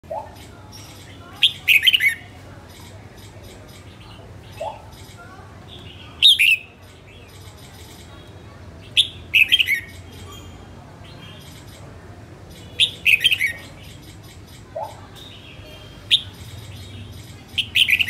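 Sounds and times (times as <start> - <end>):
bird singing: 0.1 - 8.0, 8.8 - 11.8, 12.5 - 18.0.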